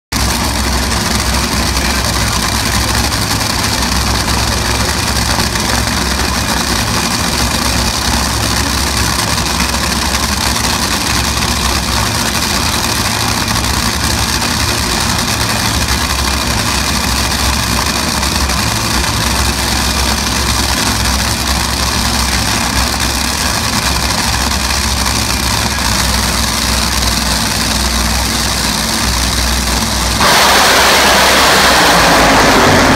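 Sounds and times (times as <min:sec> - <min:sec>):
dragster engines idling: 0:00.1 - 0:32.9.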